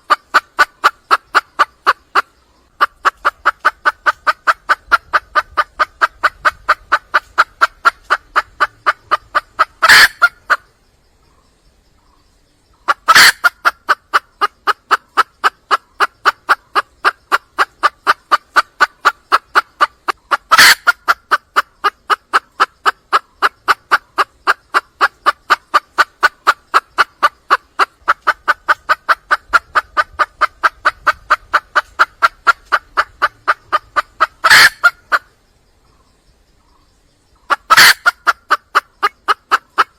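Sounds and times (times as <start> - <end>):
hen clucking: 0.0 - 10.7, 12.8 - 35.4, 37.3 - 39.9.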